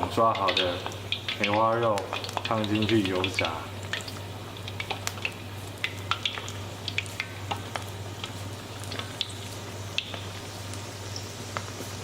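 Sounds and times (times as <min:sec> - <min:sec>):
meat deep-frying in oil: 0:00.0 - 0:12.0.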